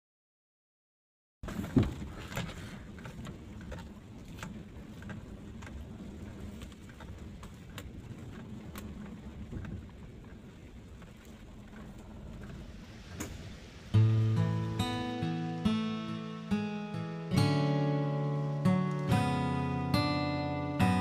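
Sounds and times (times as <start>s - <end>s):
car engine and tyres rumbling: 1.4s - 21.0s.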